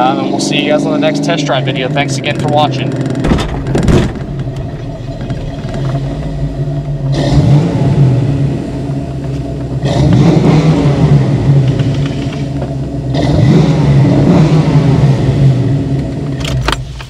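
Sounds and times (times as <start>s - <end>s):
car engine and exhaust revving: 0.0s - 17.0s.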